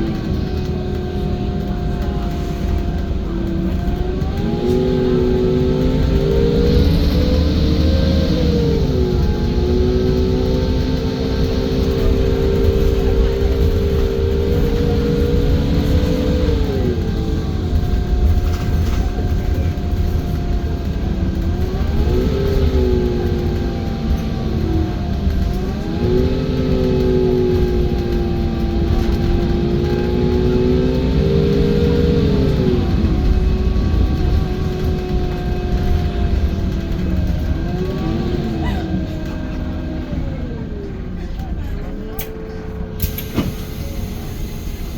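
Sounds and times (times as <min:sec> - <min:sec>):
bus engine rumble: 0:00.0 - 0:44.9
whining drivetrain: 0:00.0 - 0:44.9.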